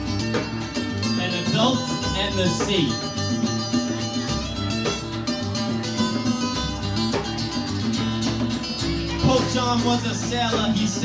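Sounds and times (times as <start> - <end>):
bass line: 0.0 - 11.0.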